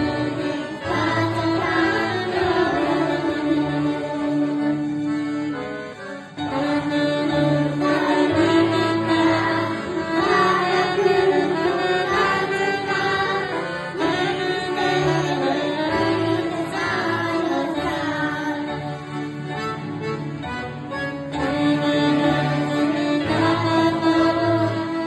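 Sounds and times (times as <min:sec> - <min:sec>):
children singing: 0:00.0 - 0:04.8, 0:06.5 - 0:18.9, 0:21.7 - 0:25.0
accordion: 0:00.0 - 0:25.0
saxophone: 0:00.0 - 0:25.0.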